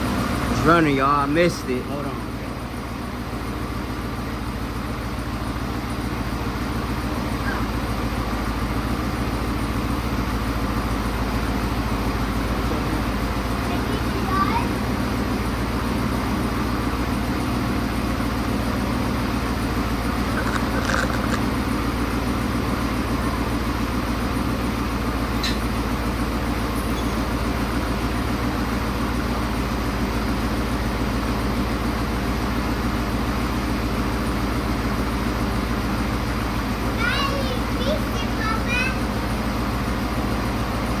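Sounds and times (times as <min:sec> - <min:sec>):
vtwo engine idling: 0:00.0 - 0:41.0.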